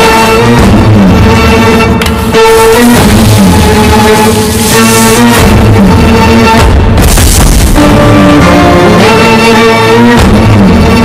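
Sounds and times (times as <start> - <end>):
music with drums and held tones: 0.1 - 11.0.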